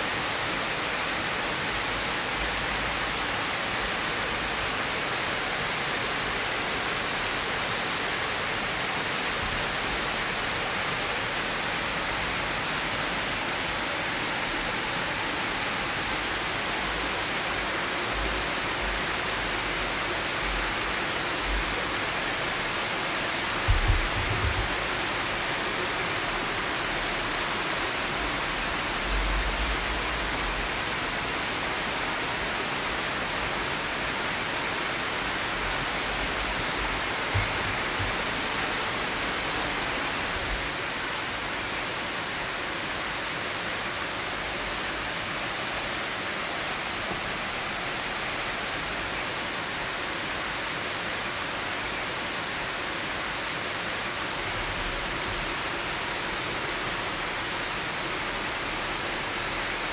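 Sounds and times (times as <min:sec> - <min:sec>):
rushing running water: 0:00.0 - 0:59.9.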